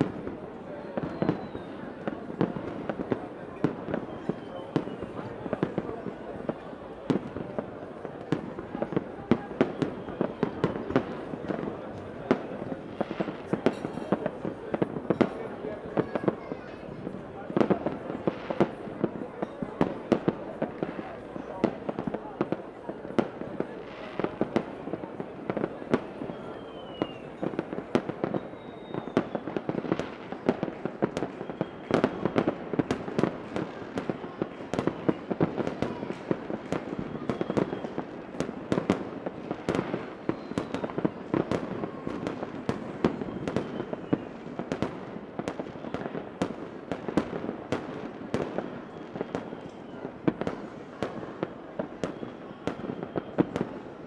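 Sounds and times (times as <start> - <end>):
fireworks bangs and crackles: 0.0 - 54.0
fireworks falling whistles: 0.0 - 54.0.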